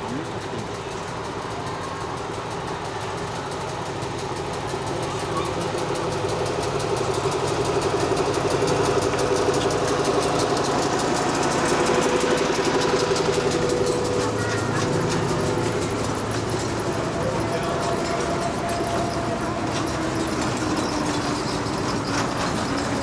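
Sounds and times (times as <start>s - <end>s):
locomotive engine pulsing: 0.0s - 23.0s.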